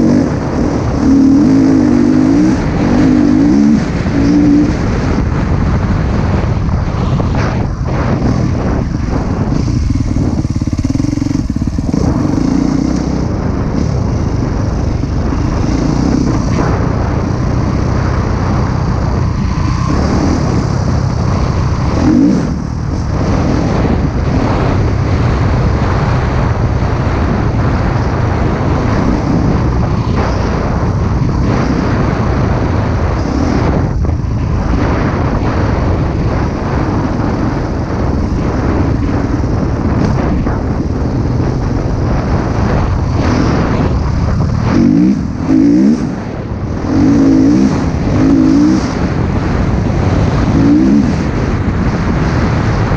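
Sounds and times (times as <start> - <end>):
motocross bike engine revving: 0.0 - 6.5, 7.3 - 52.9.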